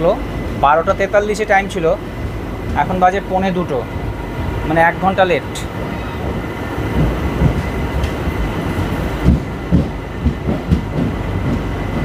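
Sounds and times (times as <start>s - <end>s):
train coaches rumbling: 0.0s - 12.0s.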